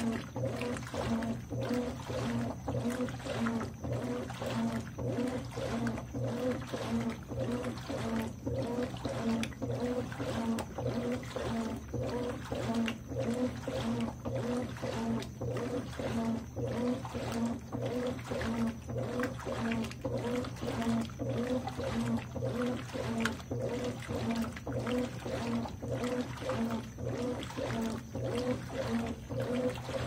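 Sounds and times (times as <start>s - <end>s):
agitator swinging back and forth: 0.0s - 30.0s
washing machine motor humming: 0.0s - 30.0s
water sloshing: 0.0s - 30.0s.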